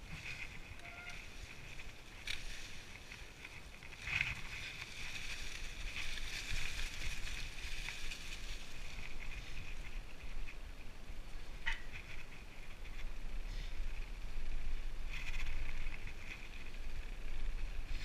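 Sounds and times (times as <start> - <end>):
bike tyres rustling through leaves: 0.0 - 18.0.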